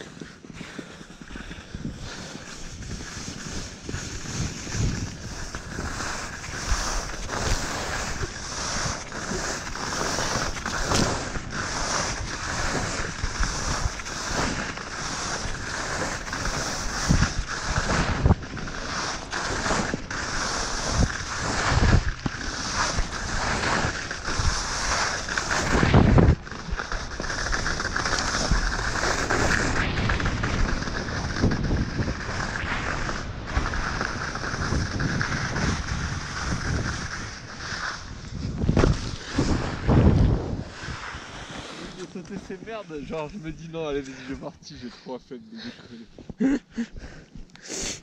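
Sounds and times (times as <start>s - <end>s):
wind buffeting microphone: 0.0s - 44.9s, 45.9s - 47.5s
skis scraping over snow: 0.0s - 48.0s.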